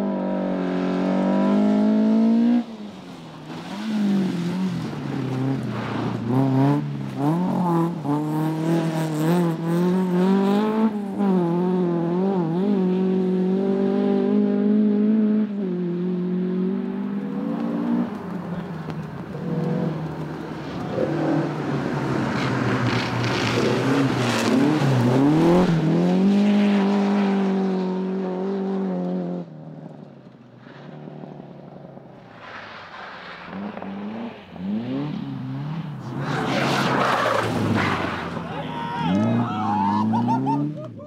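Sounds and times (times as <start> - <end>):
rally car engine revving: 0.0 - 30.0, 33.0 - 41.0.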